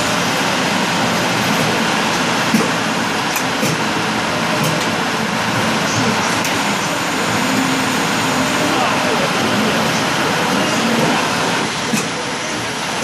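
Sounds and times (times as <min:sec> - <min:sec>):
factory machinery noise: 0:00.0 - 0:13.0.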